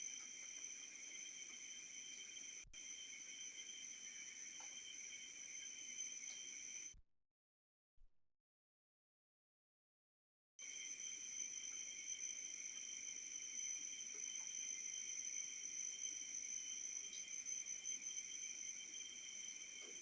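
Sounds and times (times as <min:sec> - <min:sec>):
night insects chirring: 0:00.0 - 0:07.0, 0:10.6 - 0:20.0.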